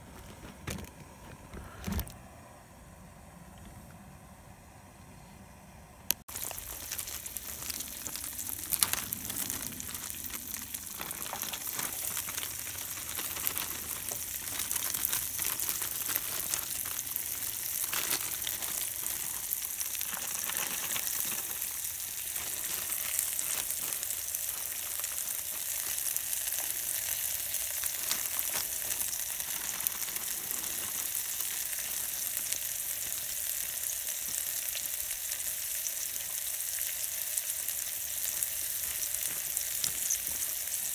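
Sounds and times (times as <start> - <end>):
sausage sizzling in butter: 6.2 - 40.9.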